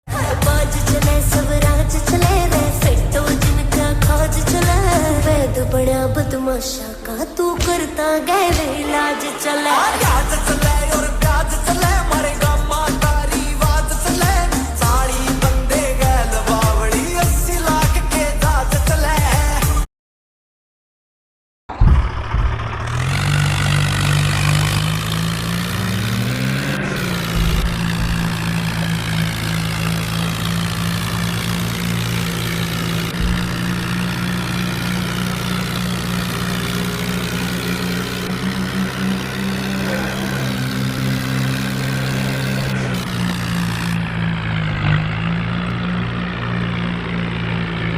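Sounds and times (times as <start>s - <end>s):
tractor engine running: 0.0s - 19.6s, 21.7s - 47.9s.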